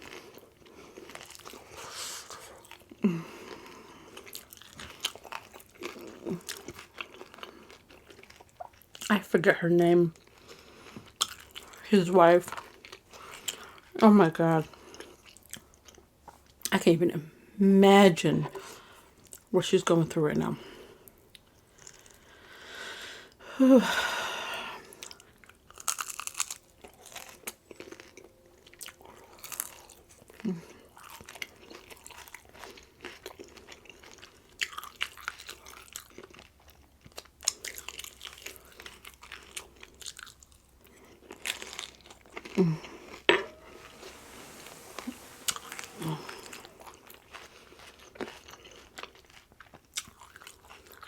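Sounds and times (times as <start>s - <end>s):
crunching and chewing: 0.0s - 9.1s, 10.1s - 11.8s, 12.5s - 14.0s, 14.6s - 16.7s, 21.0s - 22.3s, 24.8s - 51.0s.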